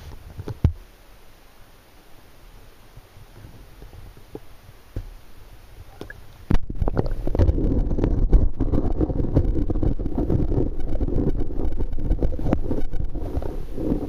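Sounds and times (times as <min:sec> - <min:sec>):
underwater river rumble: 0:00.2 - 0:14.0.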